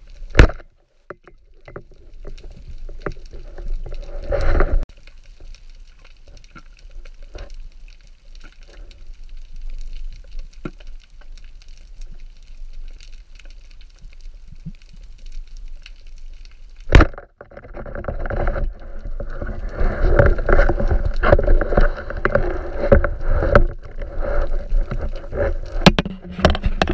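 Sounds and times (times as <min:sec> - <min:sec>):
faint underwater crackle and clicks: 0:00.0 - 0:26.9
rough water noise: 0:00.0 - 0:26.9.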